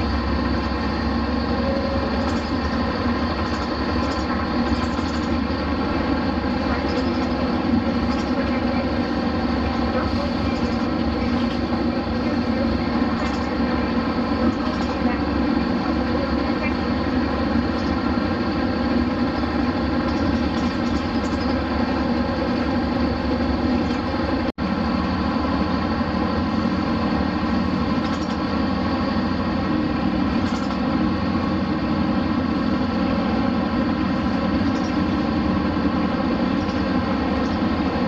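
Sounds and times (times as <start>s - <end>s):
bus diesel engine running: 0.0s - 38.0s.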